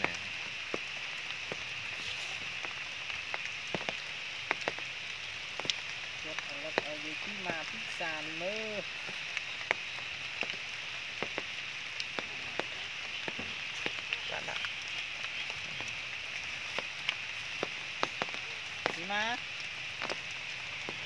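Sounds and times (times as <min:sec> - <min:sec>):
raindrops tapping close by: 0:00.0 - 0:21.0
steady rain hiss: 0:00.0 - 0:21.0.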